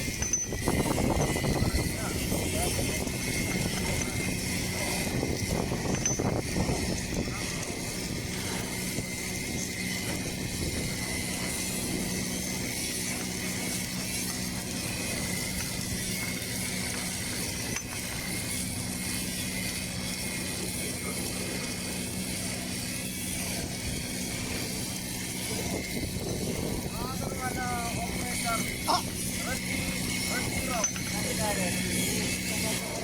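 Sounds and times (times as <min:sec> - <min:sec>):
welding machine humming: 0:00.0 - 0:33.0.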